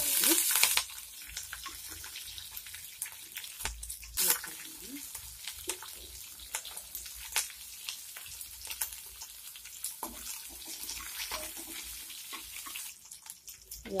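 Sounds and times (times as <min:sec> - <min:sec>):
onions sizzling in hot oil: 0:00.0 - 0:14.0
seeds crackling and popping: 0:00.0 - 0:14.0.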